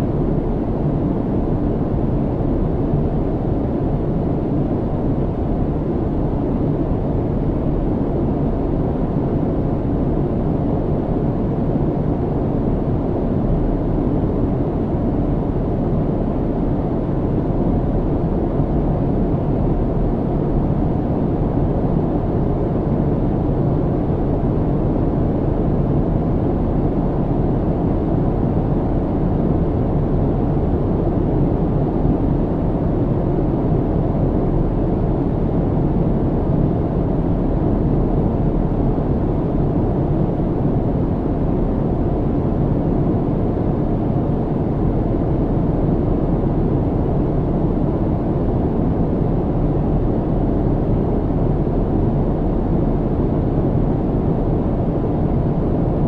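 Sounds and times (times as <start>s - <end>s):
airplane engines and airflow rumble: 0.0s - 56.0s
faint steady hum: 0.0s - 56.0s.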